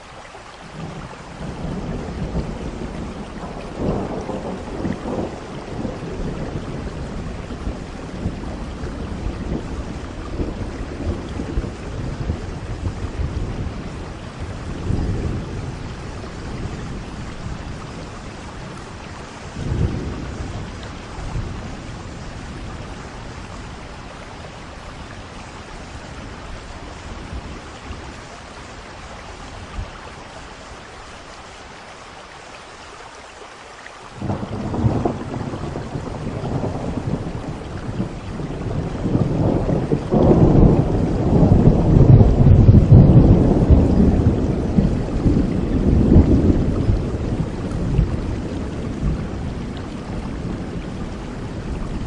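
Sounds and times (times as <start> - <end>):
steady rain: 0.0 - 52.0
rolling thunder: 0.8 - 28.8, 34.2 - 52.0.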